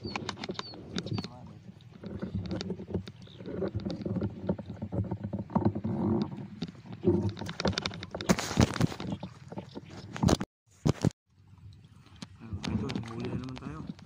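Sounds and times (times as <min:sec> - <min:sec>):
water sloshing and splashing: 0:00.0 - 0:10.5, 0:11.3 - 0:14.0.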